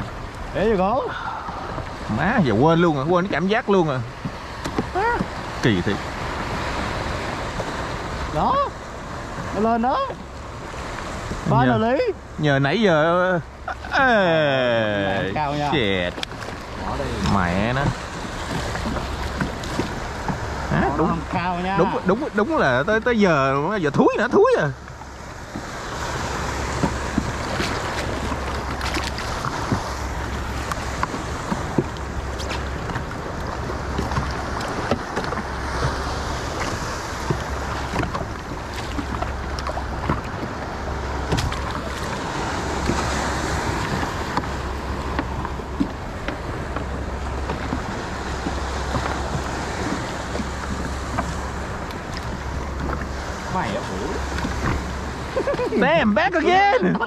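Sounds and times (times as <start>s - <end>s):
wind on microphone: 0.0s - 12.5s, 14.6s - 57.0s
water washing around jet ski: 0.0s - 57.0s.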